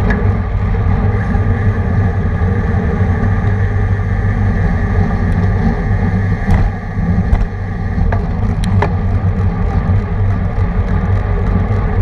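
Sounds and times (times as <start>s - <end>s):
road and tyre noise: 0.0s - 12.0s
wind buffeting camera: 0.0s - 12.0s.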